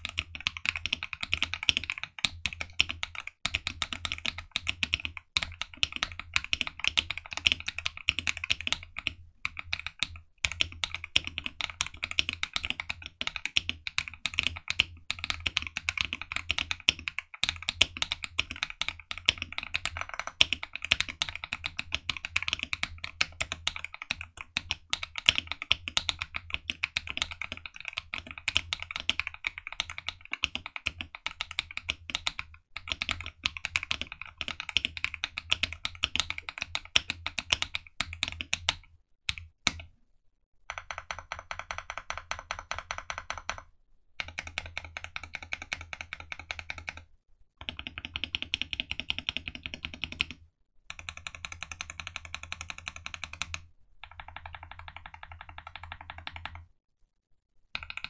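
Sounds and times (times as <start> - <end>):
mechanical keyboard typing: 0.0 - 39.9, 40.7 - 56.7, 57.7 - 58.0.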